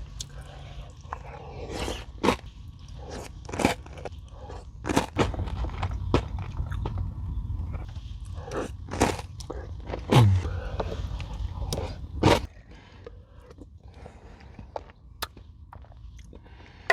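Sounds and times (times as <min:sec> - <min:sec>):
crunchy chewing: 0:00.0 - 0:16.9.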